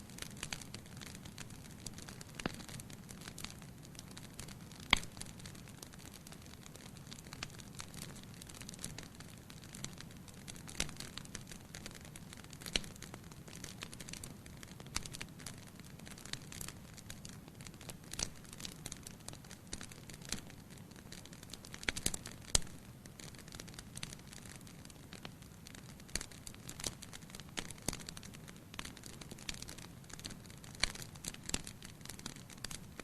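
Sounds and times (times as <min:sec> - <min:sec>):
firewood crackling and popping: 0:00.0 - 0:33.0.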